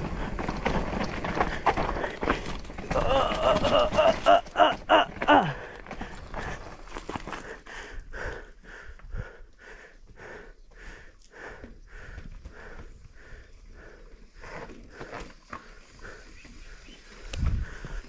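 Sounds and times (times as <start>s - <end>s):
rapid hard breathing: 0.0s - 18.0s.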